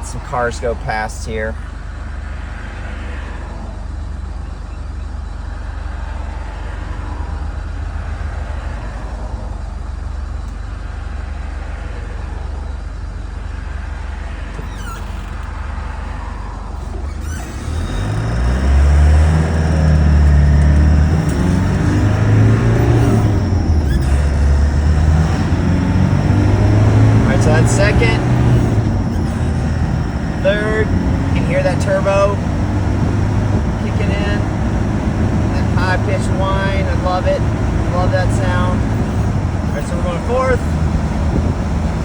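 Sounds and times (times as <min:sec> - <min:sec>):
engine idling and revving: 0:00.0 - 0:42.0.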